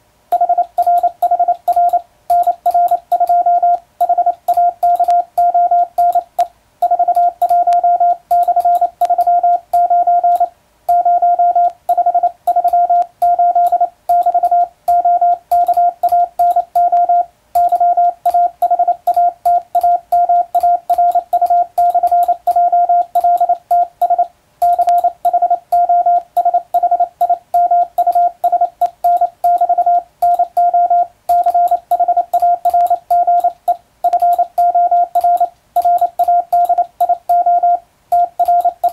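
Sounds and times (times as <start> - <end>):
faint keying clicks: 0.3 - 11.0, 11.6 - 38.9
morse code beeps: 0.3 - 38.9.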